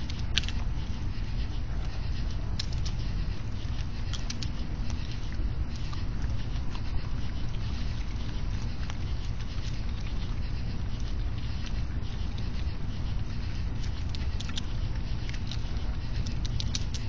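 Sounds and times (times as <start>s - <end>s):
raccoons chewing and clicking: 0.0s - 17.0s
steady low hum: 0.0s - 17.0s.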